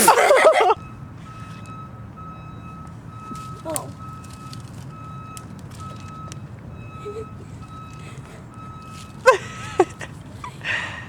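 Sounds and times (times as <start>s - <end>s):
vehicle reversing alarm beeping: 0.0s - 11.0s.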